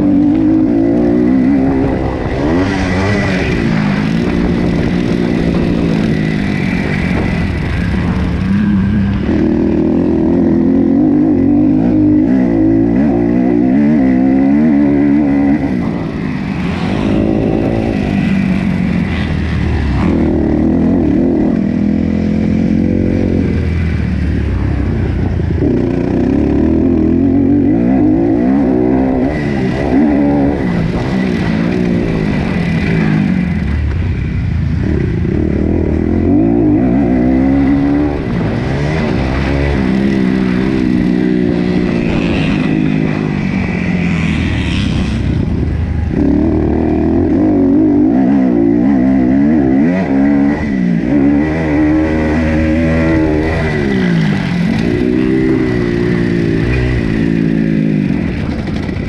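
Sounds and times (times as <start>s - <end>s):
motocross engine at full throttle: 0.0s - 59.0s.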